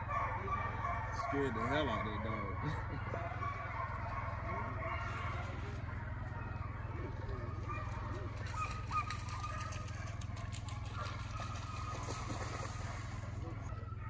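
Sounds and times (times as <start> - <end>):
faint distant calls: 0.0 - 14.0
vehicle engine idling: 0.0 - 14.0.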